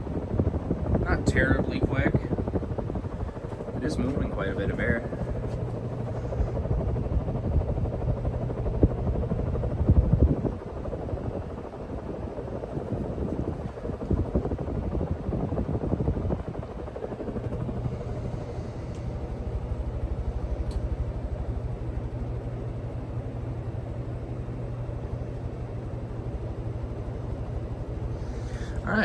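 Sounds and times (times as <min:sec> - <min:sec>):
ceiling fan blades whooshing: 0:00.0 - 0:29.0
low motor hum: 0:00.0 - 0:29.0.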